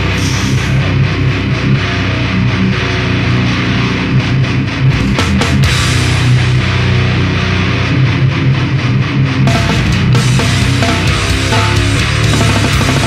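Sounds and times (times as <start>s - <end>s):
distorted guitars chugging: 0.0s - 13.0s
drums: 0.0s - 13.0s.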